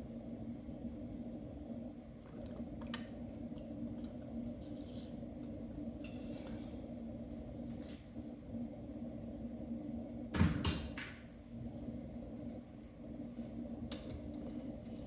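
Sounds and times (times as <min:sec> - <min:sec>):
low hum of aquarium pumps: 0:00.0 - 0:15.0.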